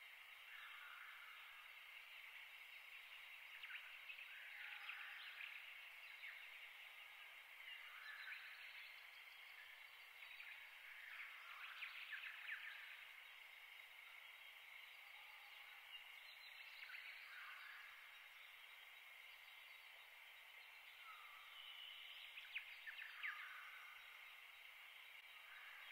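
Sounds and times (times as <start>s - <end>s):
low background hiss: 0.0s - 25.9s
small birds chirping: 0.0s - 25.9s.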